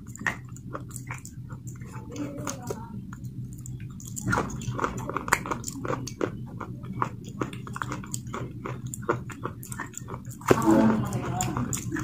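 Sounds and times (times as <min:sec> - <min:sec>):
mouth chewing sticky clicks: 0:00.0 - 0:12.0
steady low hum: 0:00.0 - 0:12.0.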